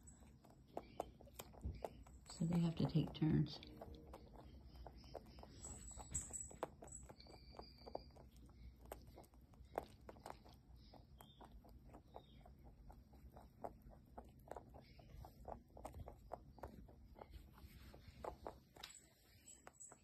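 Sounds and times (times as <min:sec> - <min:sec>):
rabbit chewing crunchy treat: 0:00.0 - 0:20.0.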